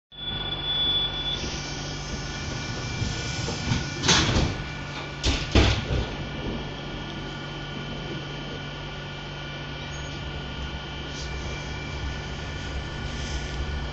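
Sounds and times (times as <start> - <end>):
train humming: 1.2 - 13.9.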